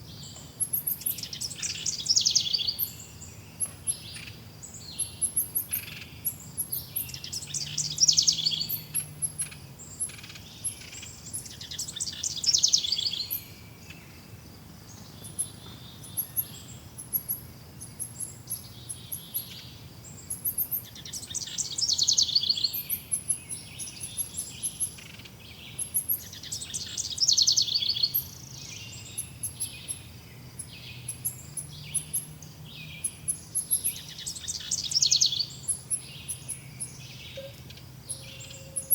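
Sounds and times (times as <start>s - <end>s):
birds high chirps: 0.0s - 38.9s.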